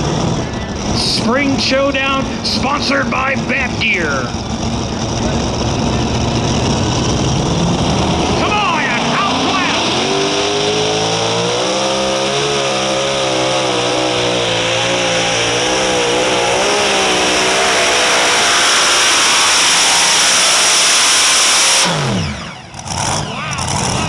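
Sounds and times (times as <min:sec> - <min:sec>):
tractor engine running flat out: 0:00.0 - 0:24.0.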